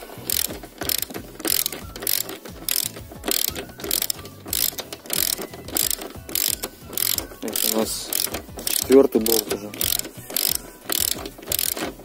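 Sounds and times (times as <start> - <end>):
ratchet wrench clicking: 0.2 - 12.0.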